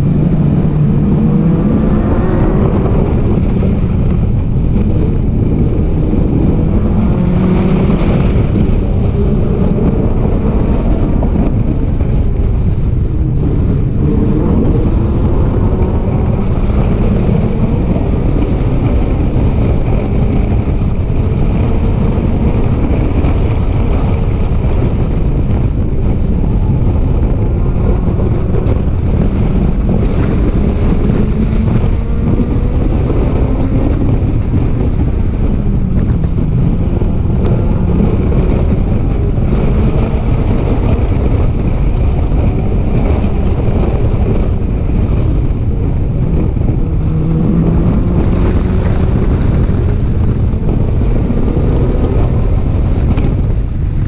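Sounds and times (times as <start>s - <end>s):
race car engine revving: 0.0s - 54.0s
wind rumble on microphone: 0.0s - 54.0s.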